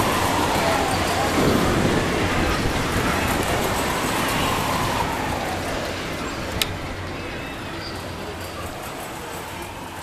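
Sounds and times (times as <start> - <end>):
swinging ship ride rumble: 0.0 - 10.0.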